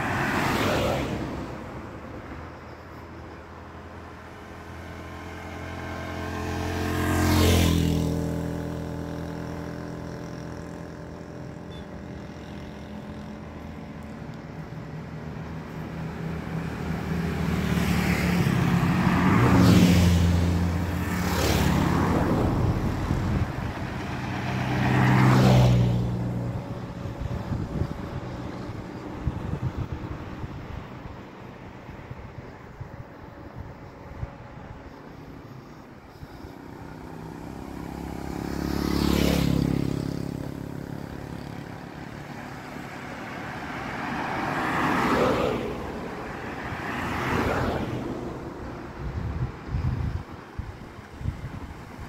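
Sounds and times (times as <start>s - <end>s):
road vehicles passing by: 0.0s - 52.0s.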